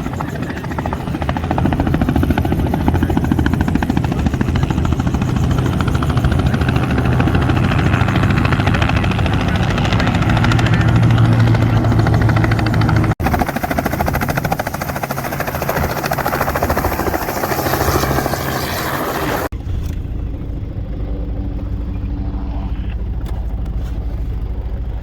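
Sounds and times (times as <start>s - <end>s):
helicopter rotor chop: 0.0s - 25.0s.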